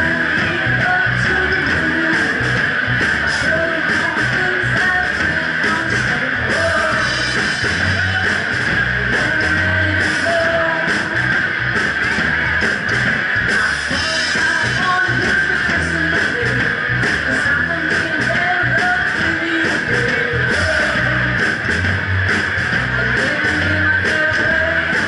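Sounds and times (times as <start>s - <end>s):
woman singing: 0.0s - 8.2s, 8.9s - 11.5s, 13.5s - 21.7s, 22.8s - 25.0s
rock band playing: 0.0s - 25.0s.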